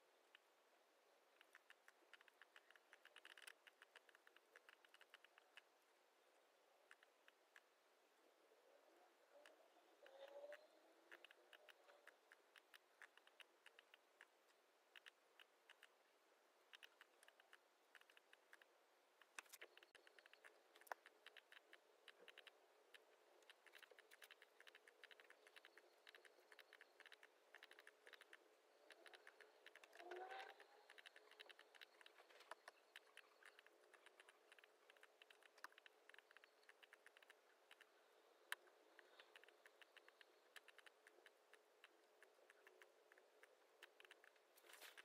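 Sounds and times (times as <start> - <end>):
laptop keyboard typing: 1.4 - 5.7, 9.4 - 16.0, 16.7 - 45.0.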